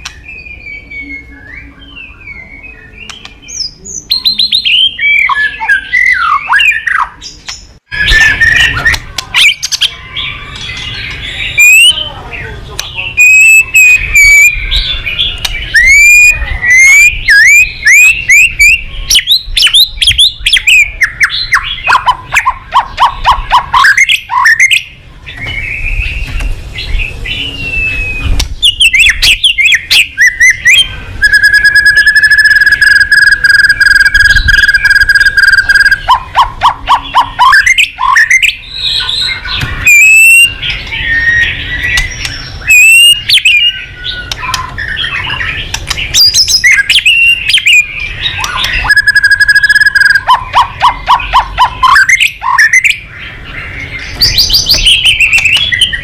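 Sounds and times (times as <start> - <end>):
bird singing whistles and trills: 0.0 - 56.0.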